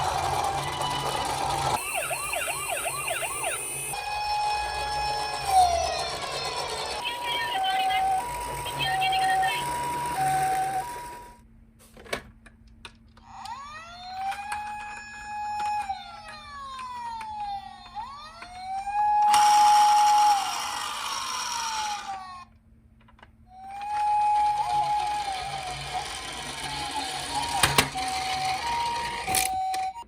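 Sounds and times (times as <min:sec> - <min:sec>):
toy electronic siren wailing: 0:00.0 - 0:11.4, 0:13.2 - 0:22.5, 0:23.5 - 0:30.0.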